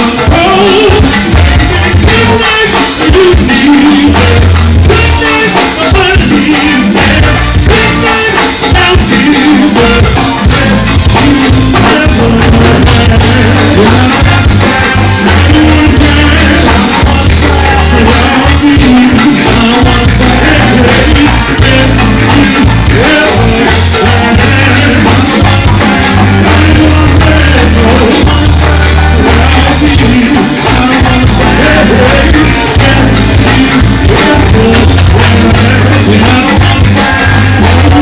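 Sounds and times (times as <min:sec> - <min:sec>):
bass line: 0:00.0 - 0:38.0
congas: 0:00.0 - 0:38.0
drum kit beat: 0:00.0 - 0:38.0
people singing and chanting: 0:00.0 - 0:38.0.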